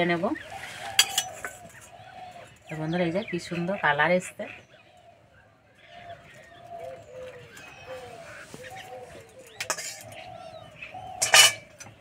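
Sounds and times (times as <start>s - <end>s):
dove cooing: 0.0s - 3.8s, 5.8s - 12.0s.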